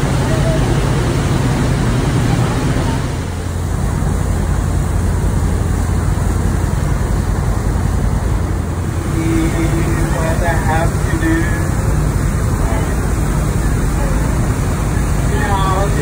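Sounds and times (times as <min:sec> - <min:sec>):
boat engine running: 0:00.0 - 0:16.0
water churning: 0:00.0 - 0:16.0.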